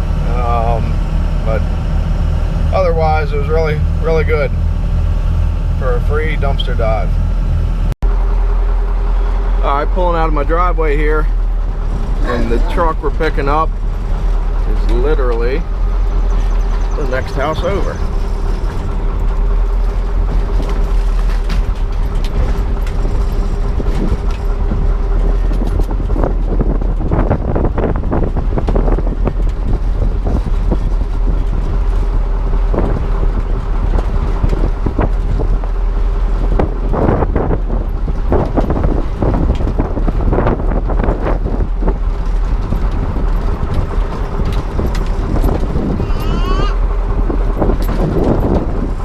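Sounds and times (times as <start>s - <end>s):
rattles and clunks: 0.0s - 49.0s
truck engine running: 0.0s - 49.0s.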